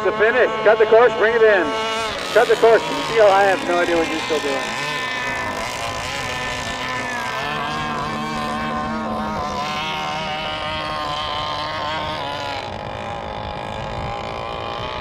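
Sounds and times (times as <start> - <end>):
model boat engines buzzing: 0.0 - 15.0.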